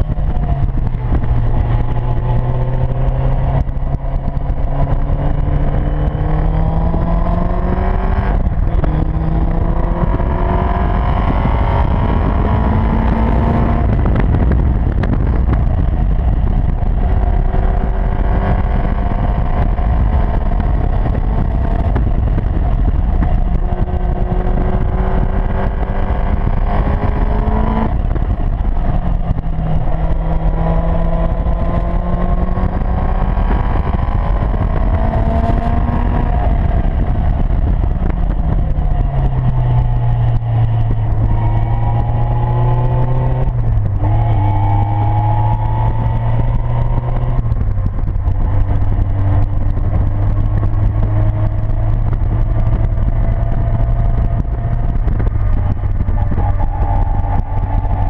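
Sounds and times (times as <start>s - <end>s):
heavy wind noise: 0.0s - 58.0s
sports car engine revving: 0.0s - 58.0s.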